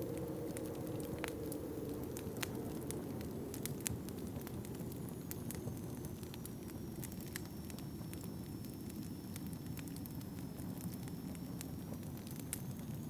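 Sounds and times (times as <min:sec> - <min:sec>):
steady low wind: 0:00.0 - 0:13.0
wood fire crackling and popping: 0:00.0 - 0:13.0.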